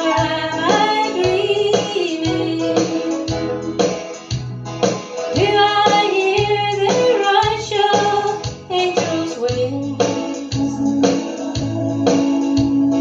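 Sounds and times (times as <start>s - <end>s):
woman singing into microphone: 0.0s - 3.5s, 5.4s - 13.0s
backing track with bass and beat: 0.0s - 13.0s.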